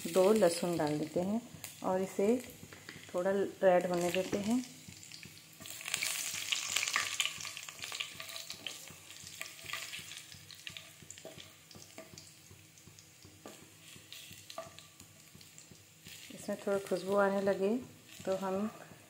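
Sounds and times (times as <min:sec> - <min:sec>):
garlic sizzling in hot oil: 0:00.0 - 0:19.0
wooden spatula stirring: 0:00.2 - 0:19.0.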